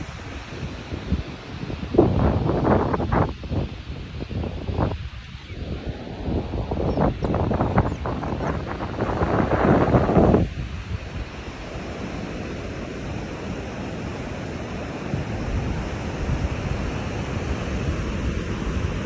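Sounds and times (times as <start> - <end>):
surf breaking on a beach: 0.0 - 19.0
wind on microphone: 0.0 - 19.0.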